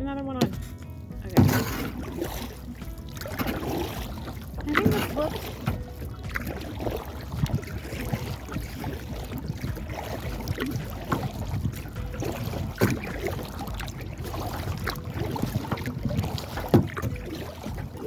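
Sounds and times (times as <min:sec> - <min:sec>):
knocks and clicks from boat: 0:00.0 - 0:18.0
water moving around kayak hull: 0:00.0 - 0:18.0
wind rumble on microphone: 0:00.0 - 0:18.0.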